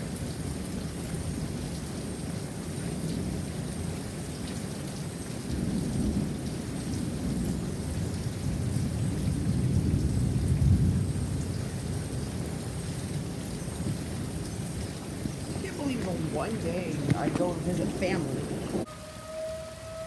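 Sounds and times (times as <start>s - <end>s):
low rumble of thunder: 0.0s - 18.9s
steady rain: 0.0s - 20.0s.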